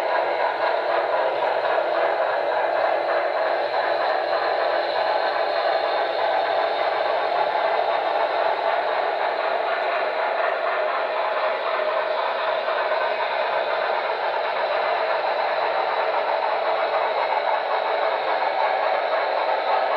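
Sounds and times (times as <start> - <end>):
model train wheels on rails: 0.0 - 19.9.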